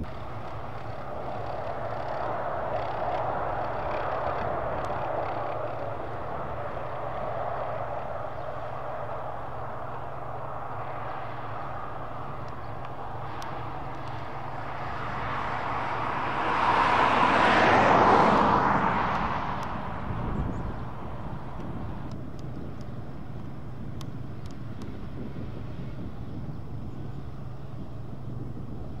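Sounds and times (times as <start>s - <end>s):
tractor diesel engines: 0.0s - 29.0s.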